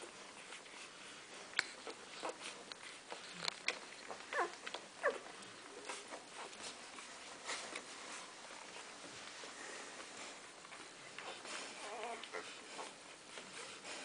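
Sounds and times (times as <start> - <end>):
puppies sucking and smacking: 0.0 - 14.0.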